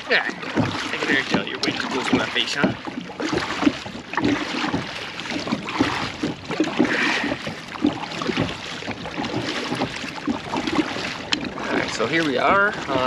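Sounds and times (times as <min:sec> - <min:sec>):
water lapping against hull: 0:00.0 - 0:13.0
low knocks: 0:00.3 - 0:13.0.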